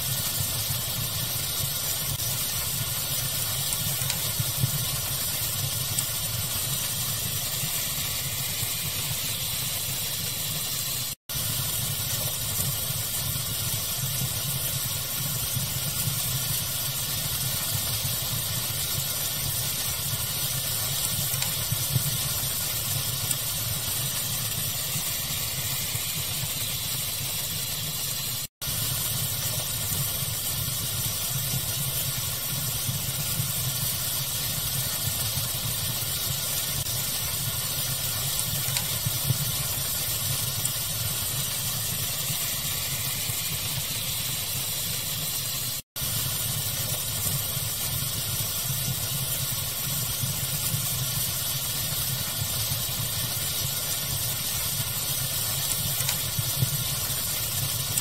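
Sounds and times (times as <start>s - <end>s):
fire crackling: 0.0s - 58.0s
pink noise hiss: 0.0s - 58.0s.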